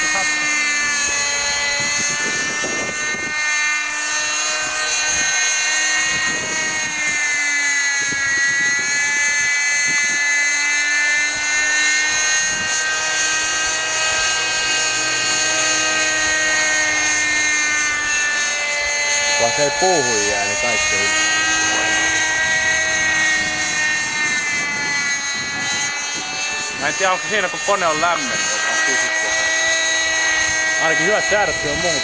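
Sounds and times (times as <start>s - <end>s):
model helicopter engine whine: 0.0s - 32.0s.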